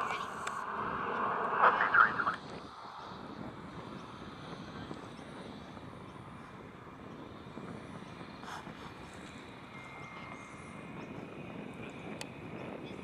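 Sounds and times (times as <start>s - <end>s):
distant airliner engines rumbling: 0.0s - 13.0s.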